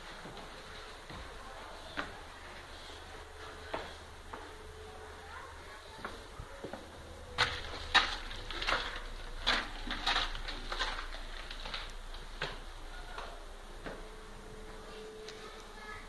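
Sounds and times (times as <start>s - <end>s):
footsteps on gritty stone floor: 0.0s - 16.0s.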